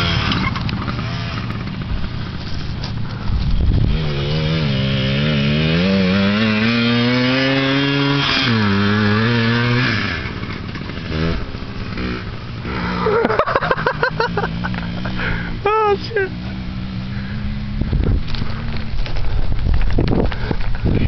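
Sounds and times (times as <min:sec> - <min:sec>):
dirt bike engine accelerating: 0:00.0 - 0:21.0.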